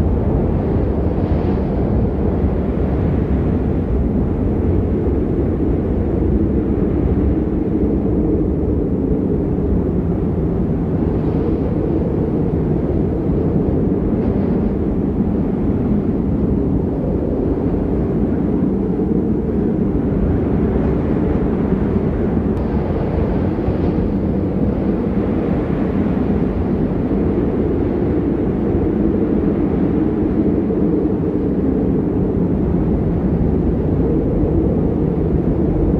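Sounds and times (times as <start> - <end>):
loud wind rumble: 0.0 - 35.9.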